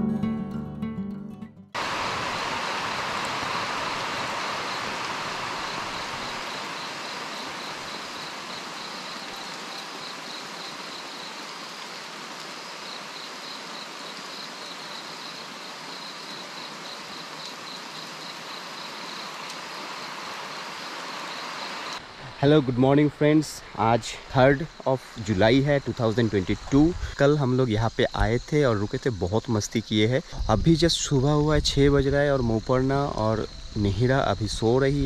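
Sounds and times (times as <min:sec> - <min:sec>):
rain falling on pool water: 0:01.8 - 0:31.6
insect chirping: 0:01.8 - 0:35.0.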